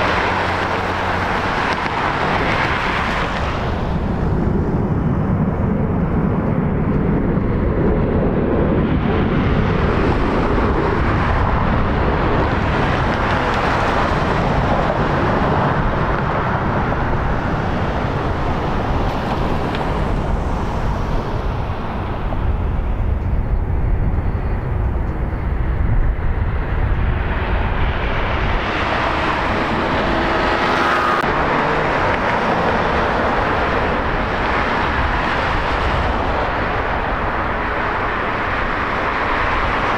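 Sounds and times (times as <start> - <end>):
jet engine whine: 0.0 - 39.9
jet engines rumbling: 0.0 - 39.9.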